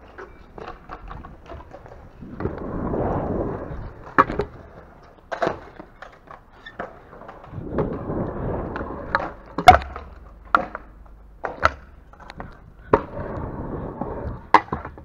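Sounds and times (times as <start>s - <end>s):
scooter wheels rolling on concrete: 0.0s - 15.0s.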